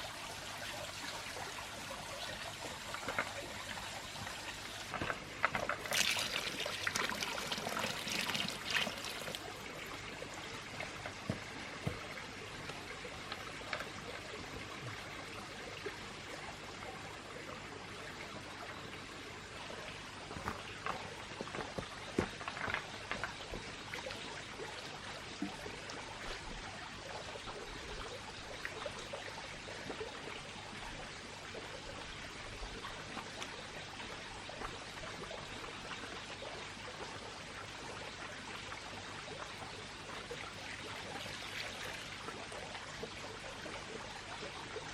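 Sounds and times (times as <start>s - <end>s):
small water drips: 0.0s - 16.5s, 18.6s - 44.9s
water trickling and splashing: 0.0s - 44.9s.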